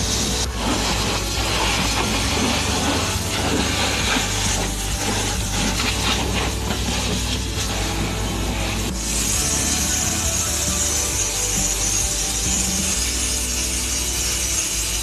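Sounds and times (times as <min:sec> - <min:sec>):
steady low hum: 0:00.0 - 0:14.9
pressure washer water jet spraying: 0:00.0 - 0:15.0.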